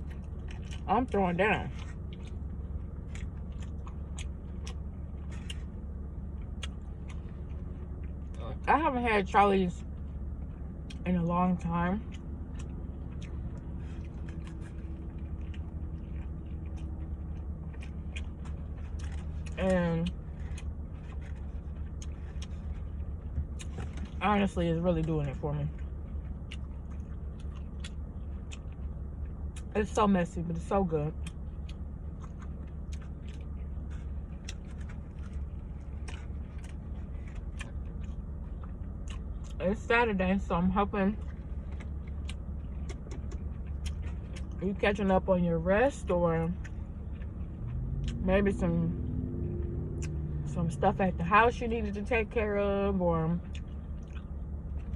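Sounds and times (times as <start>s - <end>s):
chewing with wet mouth clicks: 0.0s - 8.5s, 9.8s - 30.0s, 30.6s - 39.9s, 41.2s - 45.1s, 45.8s - 50.6s, 53.4s - 54.9s
low hum: 0.0s - 54.9s.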